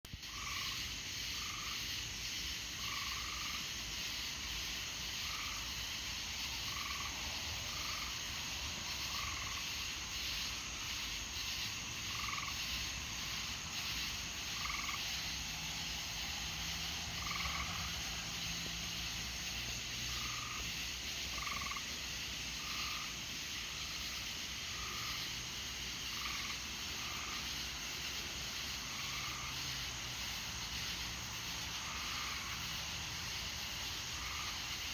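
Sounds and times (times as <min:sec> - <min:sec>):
frogs calling: 0:02.7 - 0:34.9.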